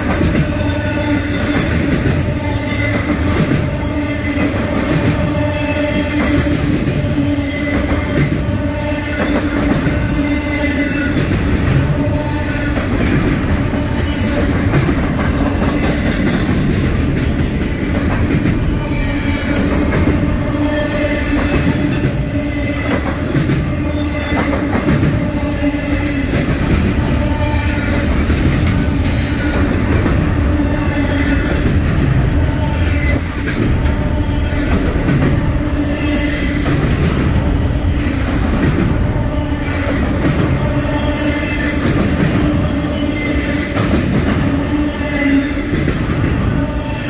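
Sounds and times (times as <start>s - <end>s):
rhythmic clickety-clack over rail joints: 0.0s - 47.0s
train wheels rumbling on rail: 0.0s - 47.0s.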